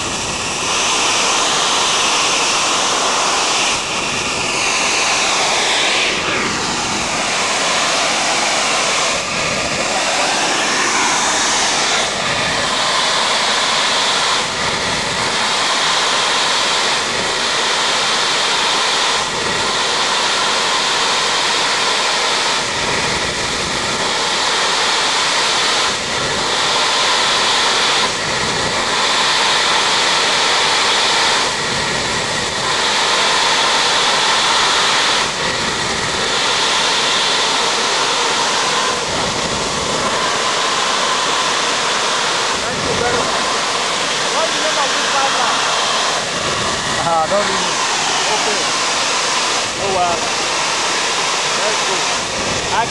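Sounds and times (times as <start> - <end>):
pressurized gas hissing rush: 0.0 - 52.9.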